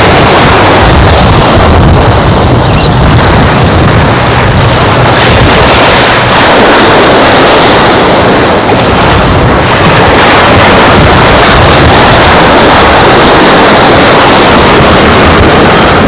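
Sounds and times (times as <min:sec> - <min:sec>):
surf on a beach: 0:00.0 - 0:16.0
wind buffeting the microphone: 0:00.0 - 0:16.0.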